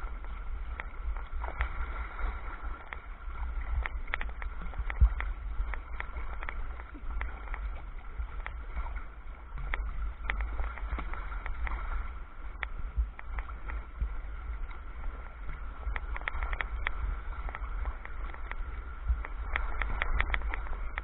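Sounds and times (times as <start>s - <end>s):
steady low rumble: 0.0s - 21.0s
water sloshing along a hull: 0.0s - 21.0s.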